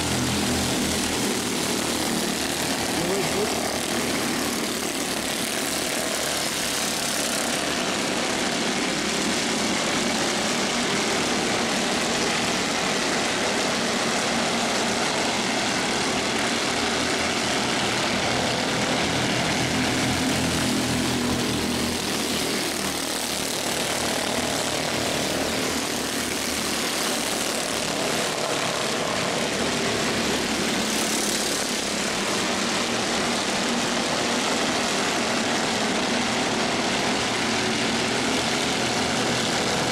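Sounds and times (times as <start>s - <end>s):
race car engines droning: 0.0s - 39.9s.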